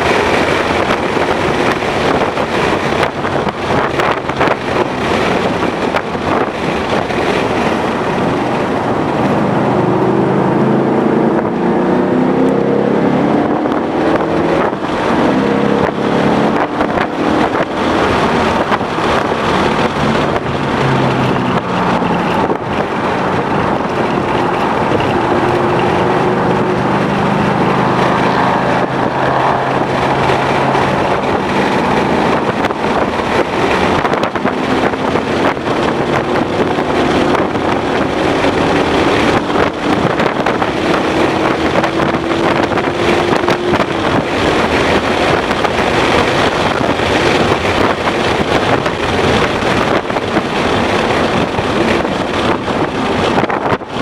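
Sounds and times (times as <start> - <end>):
car engine accelerating: 0.0 - 54.0
wind buffeting microphone: 0.0 - 54.0.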